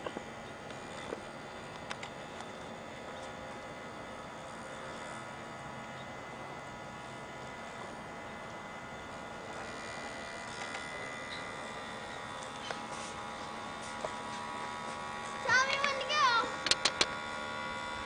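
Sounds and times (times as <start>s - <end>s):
thin steady tones: 0.4s - 18.0s.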